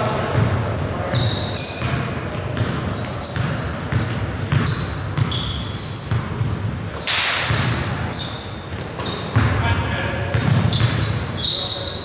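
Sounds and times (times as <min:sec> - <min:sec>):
basketball dribbling thumps: 0:00.0 - 0:11.2
sneakers squeaking on gym floor: 0:00.0 - 0:12.0.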